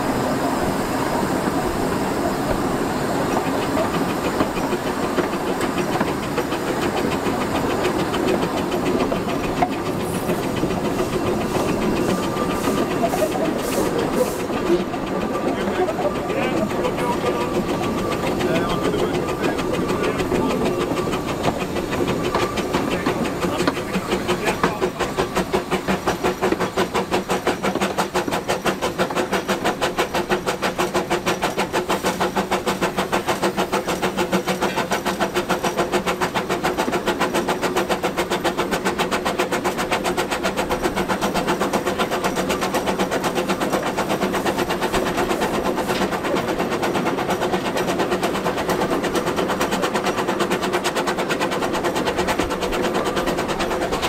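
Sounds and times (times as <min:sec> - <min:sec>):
steam locomotive exhaust chuffs: 0:00.0 - 0:54.0.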